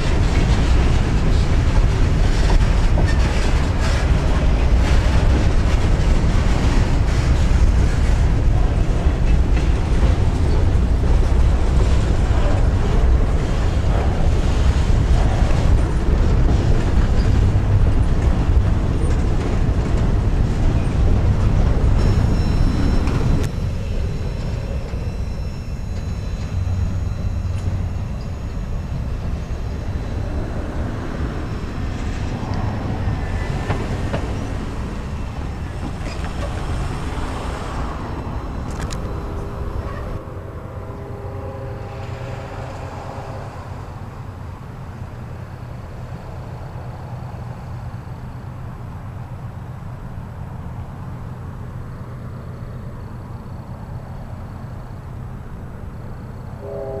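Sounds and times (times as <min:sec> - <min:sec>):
freight train rolling on rails: 0:00.0 - 0:57.0.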